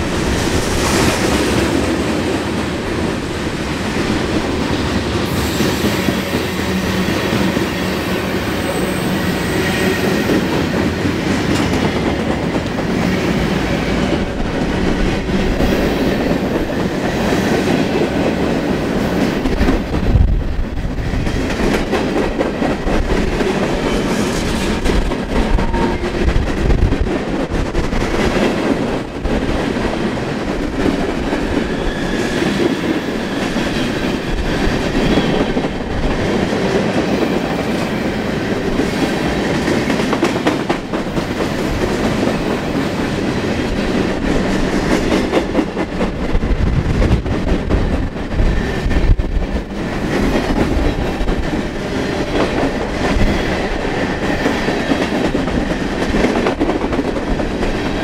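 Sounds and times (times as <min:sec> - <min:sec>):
train wheels over rail joints: 0:00.0 - 0:58.0.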